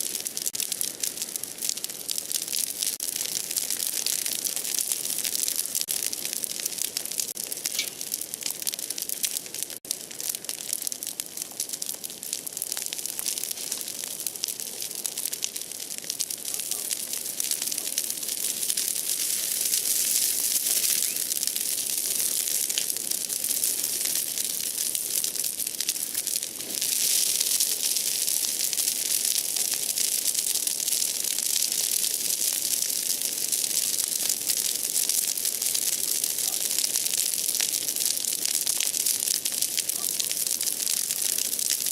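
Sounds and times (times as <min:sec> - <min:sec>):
bonfire crackling: 0:00.0 - 0:41.9.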